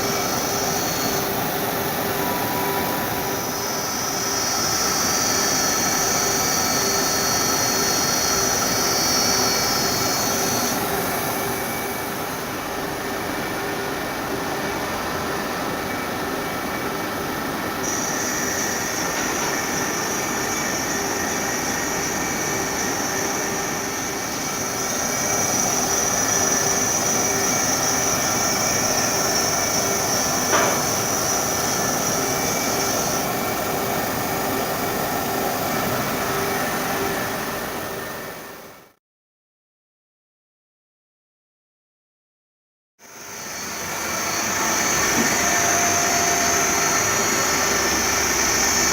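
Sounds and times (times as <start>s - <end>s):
machine running with high whine: 0.0s - 38.9s, 43.0s - 48.9s.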